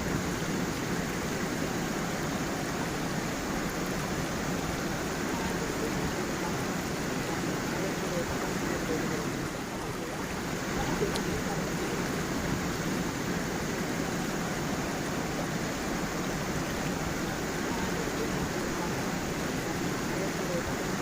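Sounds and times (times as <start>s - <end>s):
stream splashing over stones: 0.0s - 21.0s.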